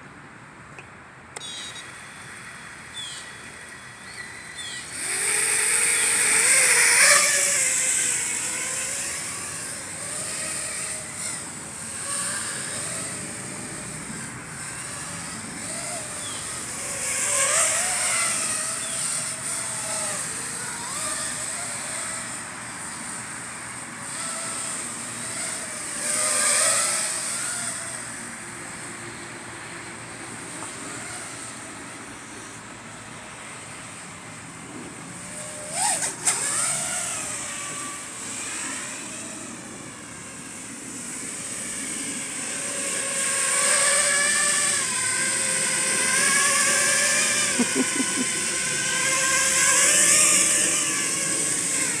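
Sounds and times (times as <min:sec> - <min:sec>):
quadcopter motors whining: 0:00.8 - 0:52.0.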